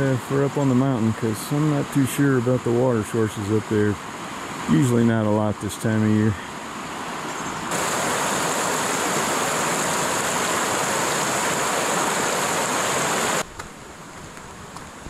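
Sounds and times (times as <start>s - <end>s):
rushing creek water: 0.0s - 15.0s.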